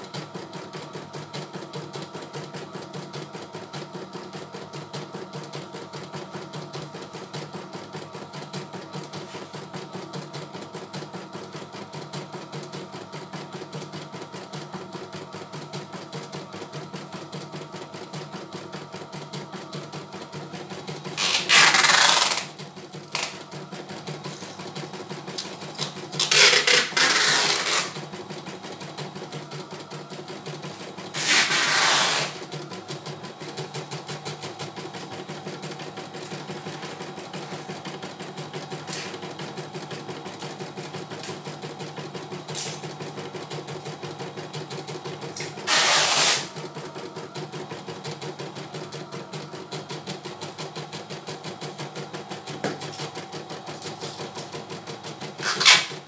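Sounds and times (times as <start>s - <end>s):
embroidery machine stitching: 0.0s - 56.0s.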